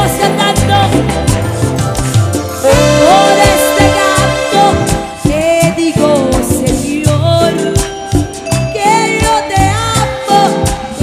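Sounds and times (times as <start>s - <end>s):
woman singing into microphone: 0.0s - 1.8s, 2.6s - 8.0s, 8.7s - 11.0s
band playing gospel music: 0.0s - 11.0s.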